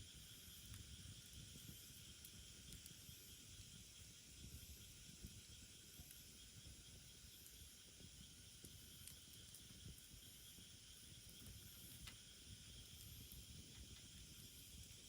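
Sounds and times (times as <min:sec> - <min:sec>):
low fire hiss: 0:00.0 - 0:15.0.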